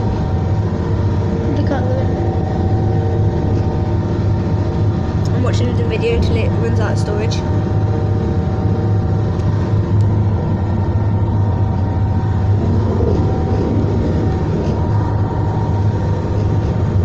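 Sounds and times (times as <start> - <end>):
train diesel engine drone: 0.0 - 17.0.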